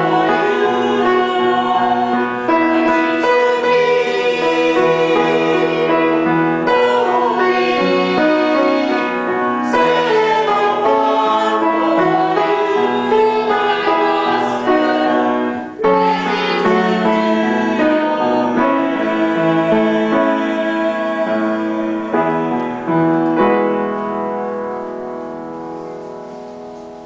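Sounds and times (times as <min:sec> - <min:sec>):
group singing a worship song: 0:00.0 - 0:22.9
piano accompaniment: 0:00.0 - 0:27.0.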